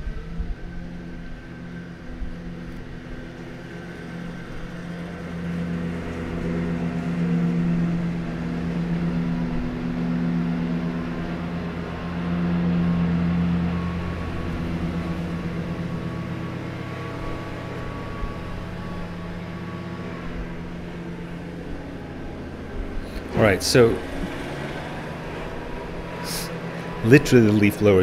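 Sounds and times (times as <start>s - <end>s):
leaf blower engine drone: 0.0s - 28.0s.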